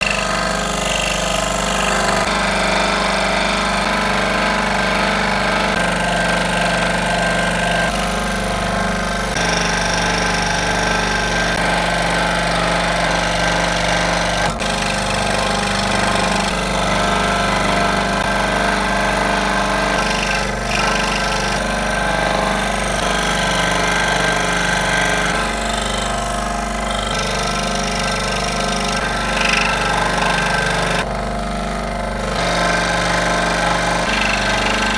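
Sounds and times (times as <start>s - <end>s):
electric power tool running: 0.0s - 34.9s.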